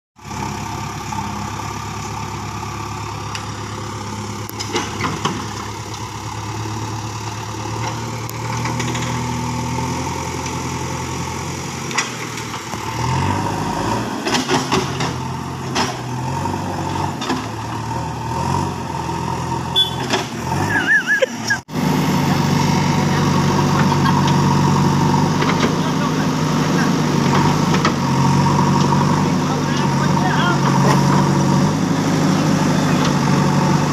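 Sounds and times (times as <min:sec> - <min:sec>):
diesel engine running: 0:00.2 - 0:33.9.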